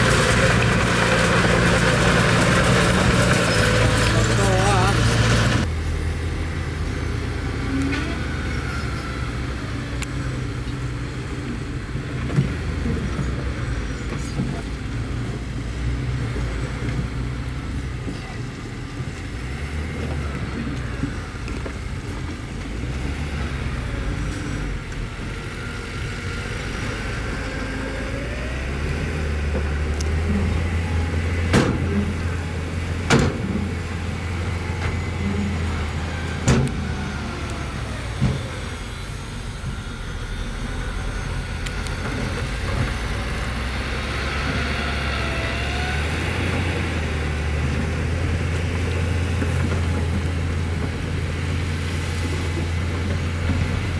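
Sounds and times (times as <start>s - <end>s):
bulldozer diesel engine running: 0.0s - 53.9s.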